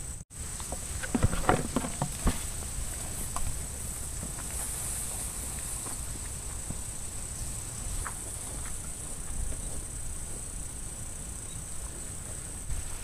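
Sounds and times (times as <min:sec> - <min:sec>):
insects droning: 0:00.0 - 0:13.0
rustling through tall grass: 0:00.4 - 0:13.0.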